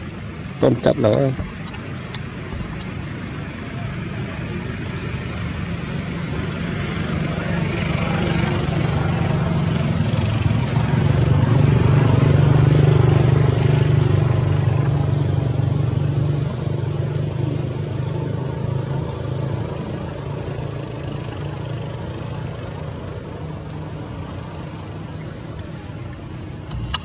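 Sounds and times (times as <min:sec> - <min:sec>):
low engine hum: 0:00.0 - 0:27.0.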